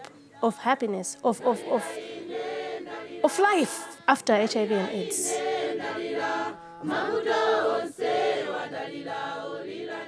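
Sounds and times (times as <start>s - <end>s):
group of voices chanting: 1.4s - 10.0s.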